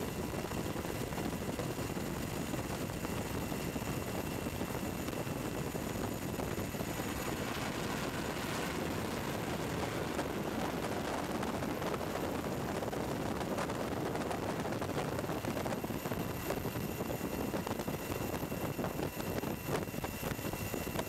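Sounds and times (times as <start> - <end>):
faint high whines: 0.0 - 21.0
helicopter rotor and engine noise: 0.0 - 21.0.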